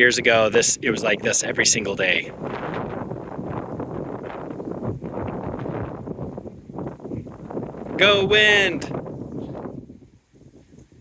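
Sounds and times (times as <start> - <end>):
gusting wind buffeting microphone: 0.0 - 11.0.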